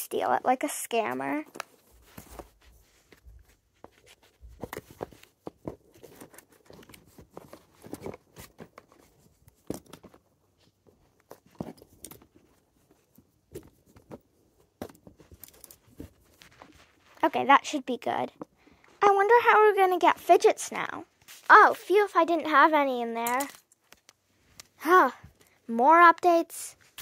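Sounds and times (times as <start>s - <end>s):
fidget toys knocking and rustling: 1.0s - 17.5s, 21.1s - 27.0s.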